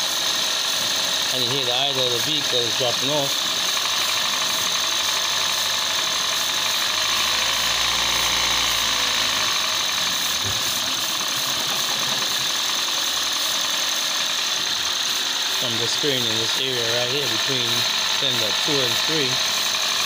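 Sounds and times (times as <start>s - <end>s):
car engine idling roughly with rattle: 0.0s - 20.0s.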